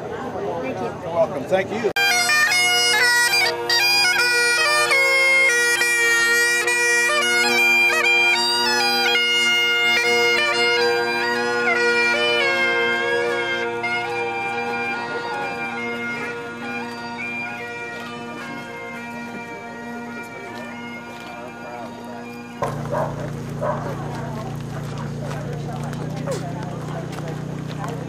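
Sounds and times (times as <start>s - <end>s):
bagpipes playing a tune: 0.4s - 28.0s.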